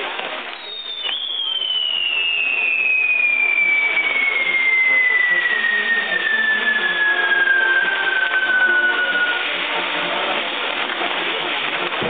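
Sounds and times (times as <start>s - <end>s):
firework wheels hissing: 0.0s - 12.0s
firework whistle falling in pitch: 0.4s - 10.2s.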